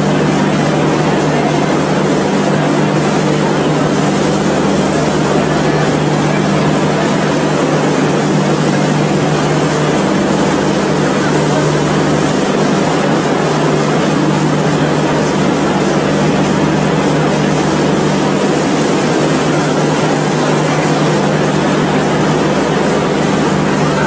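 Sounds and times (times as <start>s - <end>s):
engine-like drone: 0.0s - 24.0s.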